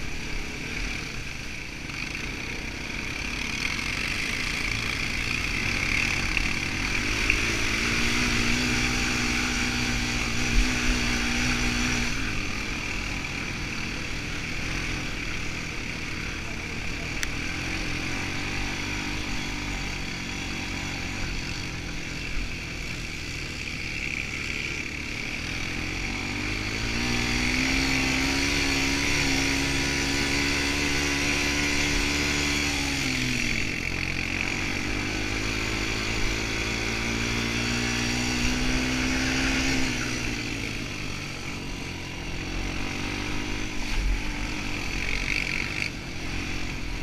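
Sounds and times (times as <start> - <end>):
quad bike engine revving: 0.0 - 47.0.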